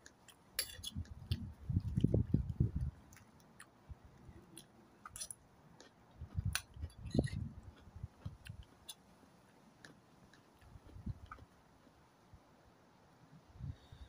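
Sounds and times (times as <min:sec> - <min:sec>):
person chewing food: 0:00.0 - 0:12.1.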